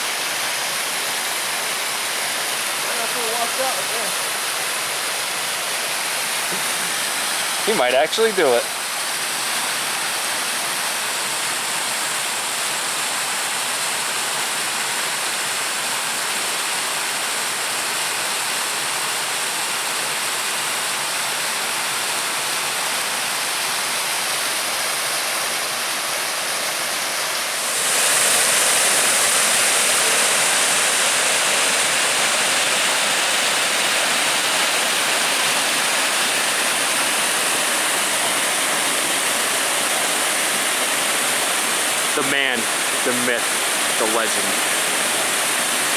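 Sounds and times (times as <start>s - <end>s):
small waterfall rushing: 0.0s - 45.9s.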